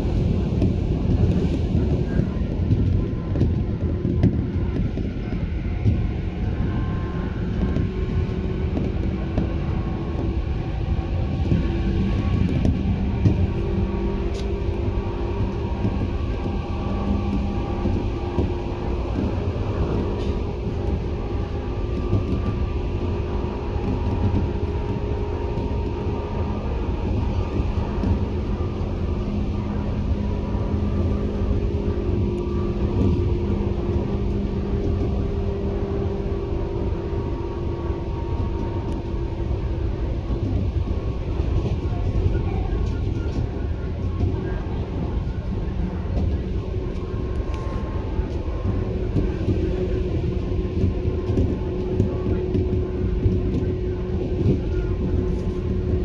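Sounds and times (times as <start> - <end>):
train motors humming: 0.0 - 56.0
train wheels rumbling on rail: 0.0 - 56.0.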